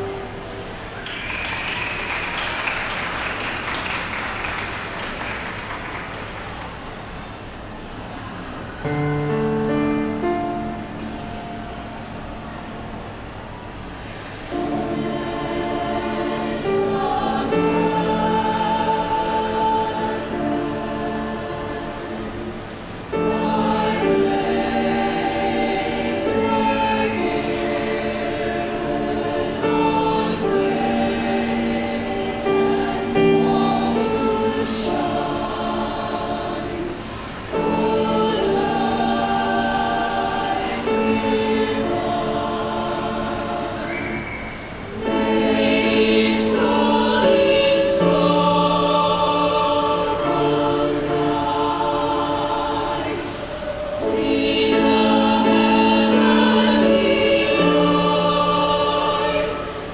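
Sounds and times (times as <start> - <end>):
choir singing held chords: 0.0 - 1.4, 2.0 - 59.9.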